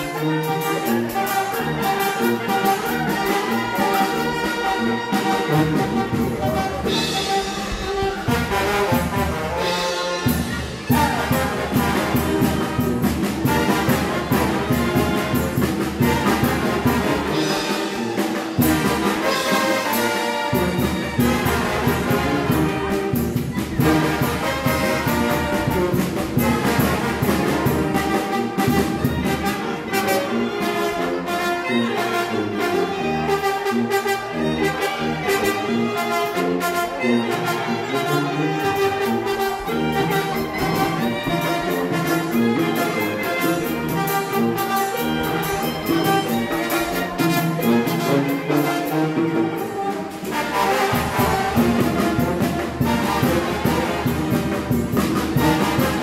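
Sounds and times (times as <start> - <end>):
brass band music: 0.0 - 56.0.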